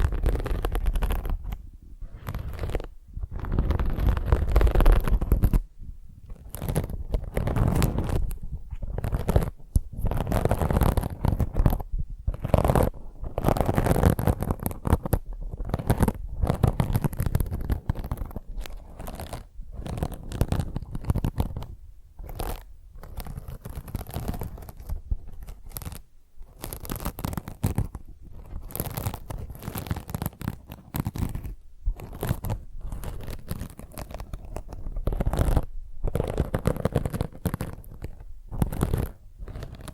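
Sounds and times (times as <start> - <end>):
scouring pad scratching: 2.1 - 5.6, 8.9 - 21.6, 22.2 - 39.9.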